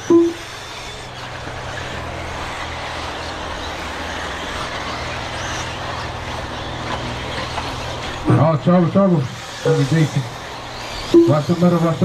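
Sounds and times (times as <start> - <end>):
electric rc cars running: 0.0 - 12.0
rising motor whine: 0.0 - 12.0.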